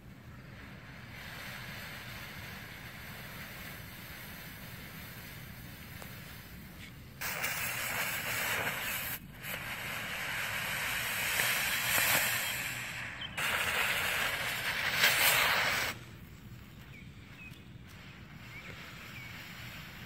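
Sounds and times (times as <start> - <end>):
smoke balls hissing: 0.0 - 20.0.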